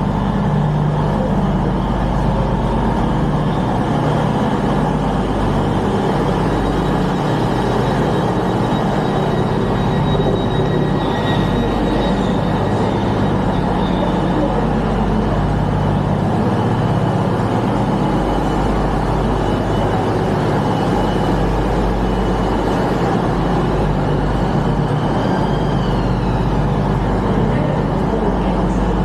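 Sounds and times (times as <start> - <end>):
faint high whine: 0.0 - 29.0
train running rumble: 0.0 - 29.0.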